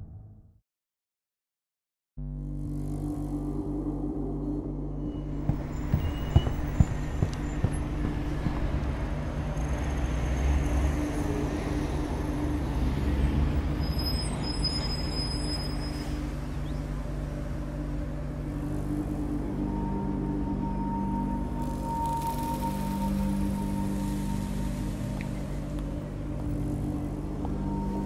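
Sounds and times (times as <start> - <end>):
dark ambient drone: 2.2 - 28.0.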